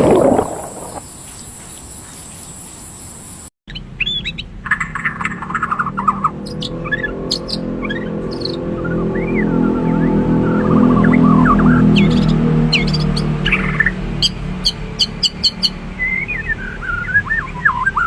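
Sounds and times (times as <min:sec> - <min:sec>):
noisy rush: 0:00.0 - 0:01.2, 0:04.6 - 0:18.0
small birds chirping: 0:00.0 - 0:18.0.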